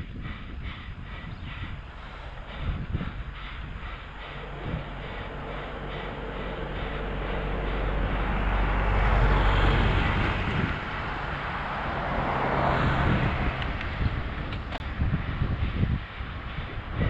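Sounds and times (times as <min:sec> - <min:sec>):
vehicle engine hum: 0:00.0 - 0:17.0
wind and road rush: 0:00.0 - 0:17.0.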